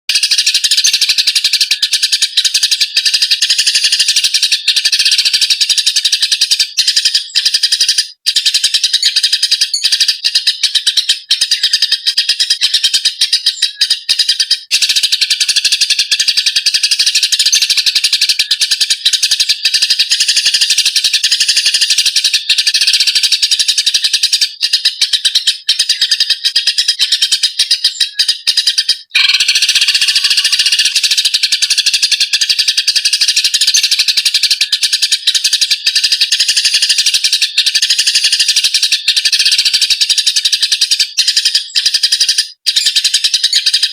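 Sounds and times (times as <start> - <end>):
sparrows chattering: 0.1 - 43.9.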